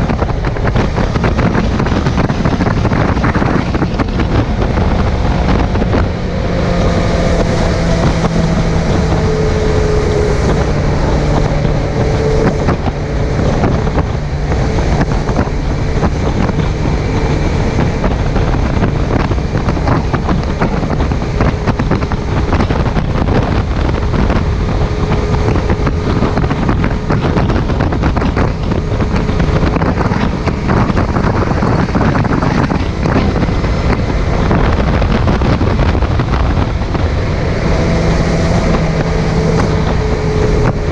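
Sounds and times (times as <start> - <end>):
motorcycle engine: 0.0 - 40.9
wind rushing over microphone: 0.0 - 40.9.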